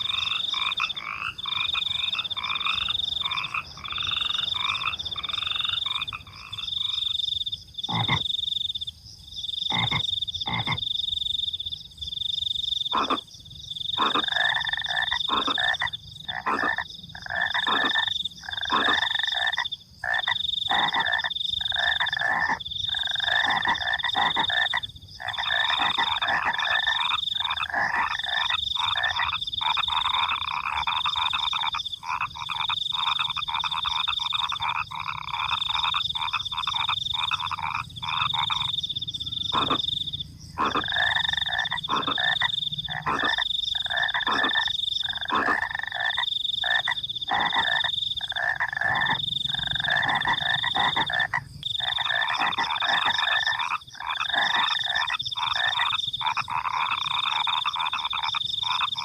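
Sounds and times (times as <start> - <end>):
crickets trilling: 0.0 - 59.0
frogs croaking: 0.0 - 59.0.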